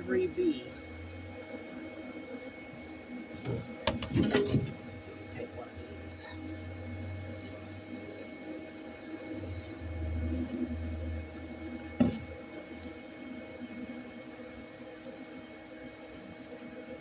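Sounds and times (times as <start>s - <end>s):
vacuum whirring: 0.0s - 17.0s.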